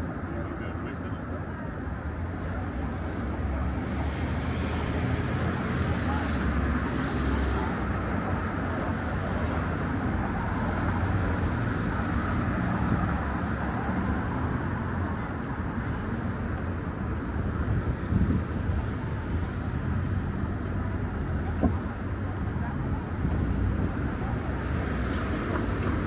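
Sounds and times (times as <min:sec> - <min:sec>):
passing cars rumbling: 0:01.3 - 0:26.0.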